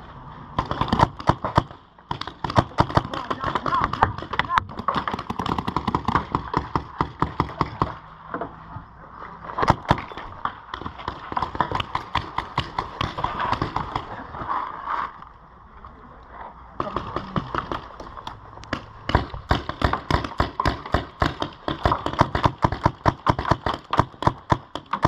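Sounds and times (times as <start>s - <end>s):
paintball markers firing: 0.6s - 8.0s, 9.6s - 14.2s, 16.8s - 25.0s.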